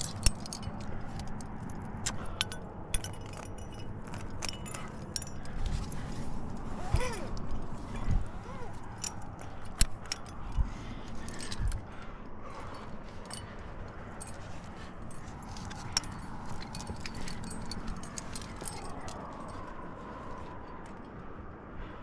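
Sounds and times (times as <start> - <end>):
climbing gear clinking and jangling: 0.0 - 21.4.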